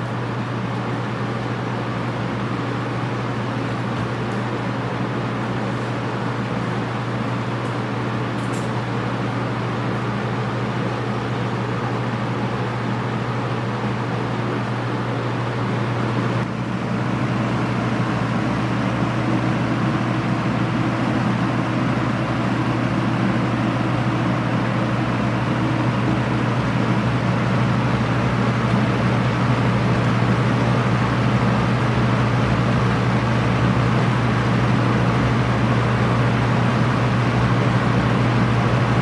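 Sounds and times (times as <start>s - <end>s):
box fan running: 0.0s - 39.0s.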